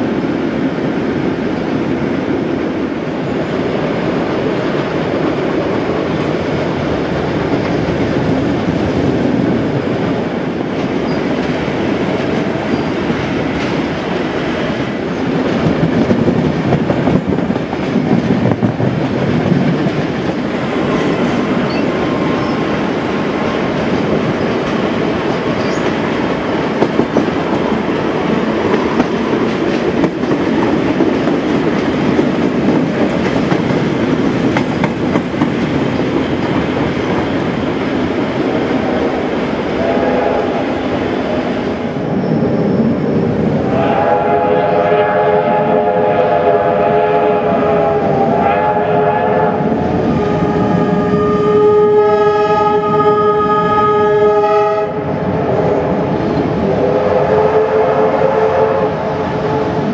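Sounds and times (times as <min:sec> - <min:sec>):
train rumble from aboard: 0:00.0 - 0:59.9.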